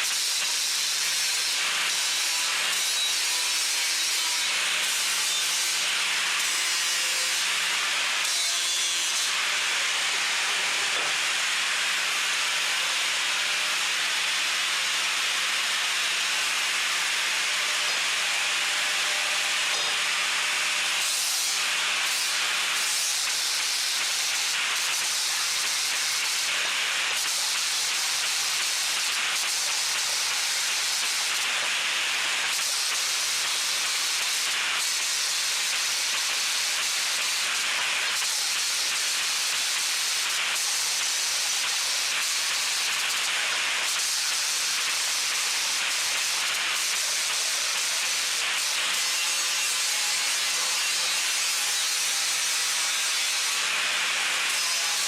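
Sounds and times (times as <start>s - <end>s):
abrasive hiss of steel grinding: 0.0s - 14.8s, 16.6s - 55.0s.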